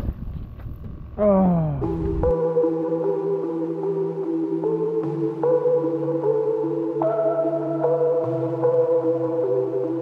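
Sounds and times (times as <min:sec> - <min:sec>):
held synth notes: 0:01.5 - 0:10.0.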